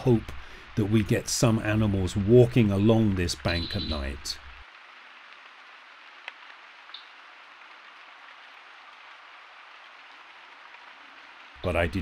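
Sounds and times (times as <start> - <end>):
night ambience hiss: 0.0 - 12.0.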